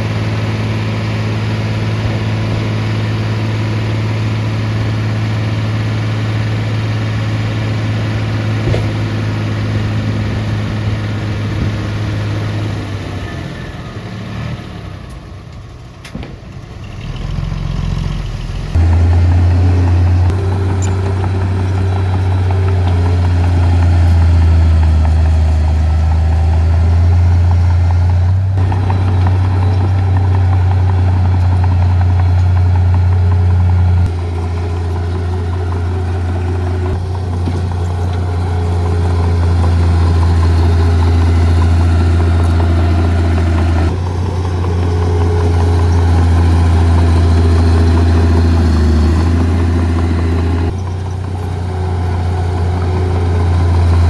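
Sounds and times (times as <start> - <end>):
diesel machinery running: 0.0 - 54.0
louder deeper engine running: 0.0 - 54.0.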